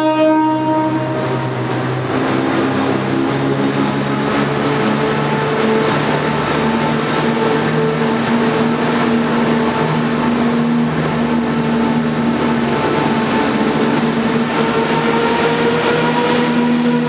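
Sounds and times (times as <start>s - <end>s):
passenger train droning: 0.0s - 17.0s
train running noise: 0.0s - 17.0s.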